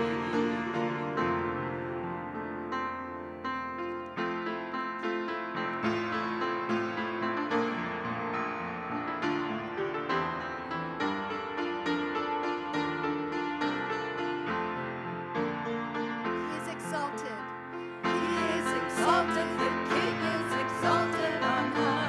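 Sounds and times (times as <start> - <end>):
piano melody over chords: 0.0 - 22.0.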